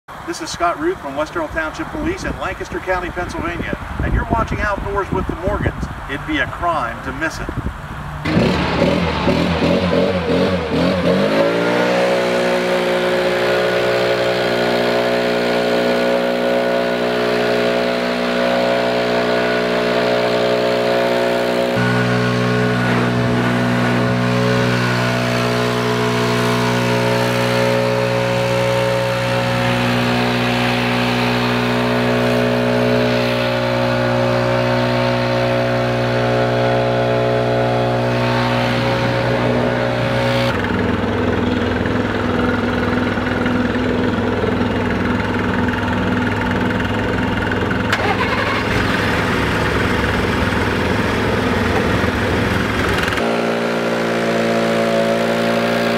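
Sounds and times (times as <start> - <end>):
leaf blower engine running: 8.2 - 55.9.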